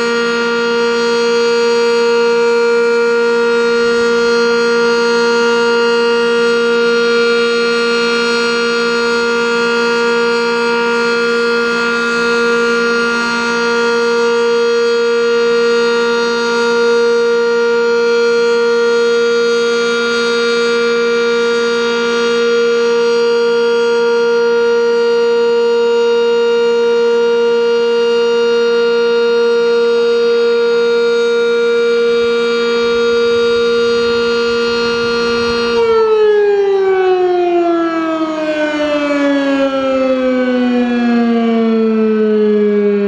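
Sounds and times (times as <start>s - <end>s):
outdoor warning siren: 0.0s - 43.0s.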